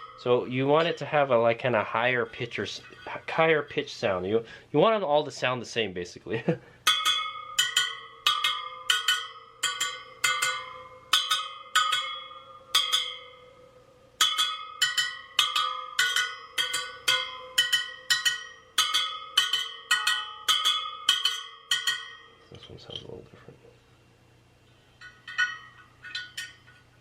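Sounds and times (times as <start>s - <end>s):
wheel spokes plucked pinging: 0.0s - 3.8s, 6.8s - 23.2s, 25.0s - 27.0s.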